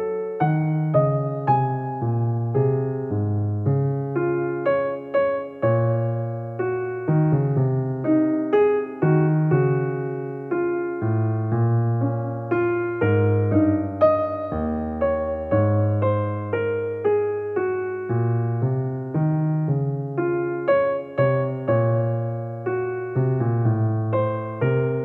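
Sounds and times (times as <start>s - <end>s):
electric piano melody: 0.0s - 25.0s.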